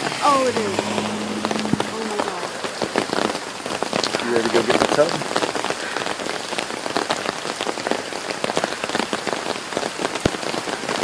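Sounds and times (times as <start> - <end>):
heavy rain hissing: 0.0 - 11.0
raindrops tapping hard surfaces: 1.6 - 11.0.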